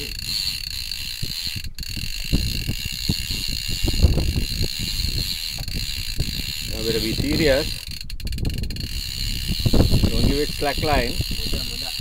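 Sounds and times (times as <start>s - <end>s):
fishing reel clicking: 0.0s - 12.0s
high-pitched hum: 0.0s - 12.0s.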